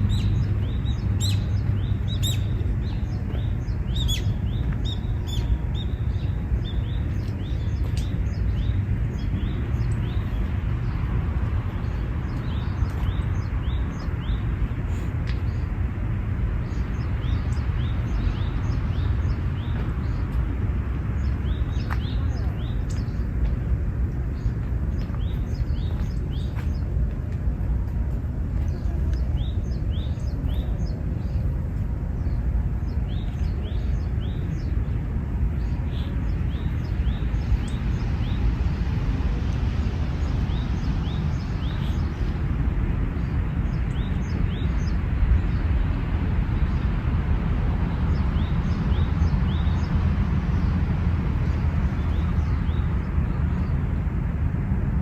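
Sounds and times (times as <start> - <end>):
small birds chirping: 0.0 - 47.1
low outdoor rumble: 0.0 - 55.0.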